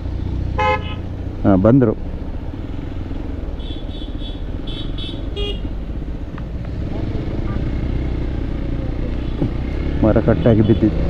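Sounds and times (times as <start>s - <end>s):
motorcycle engine running: 0.0s - 10.9s
road noise: 0.0s - 11.0s.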